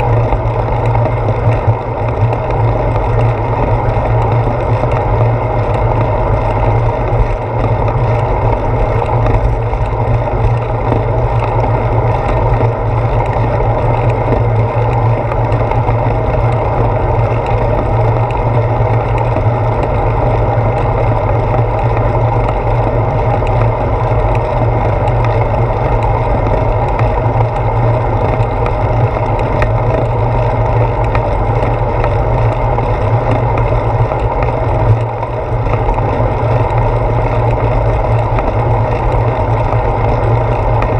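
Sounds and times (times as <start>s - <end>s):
wind and road rumble: 0.0s - 40.9s.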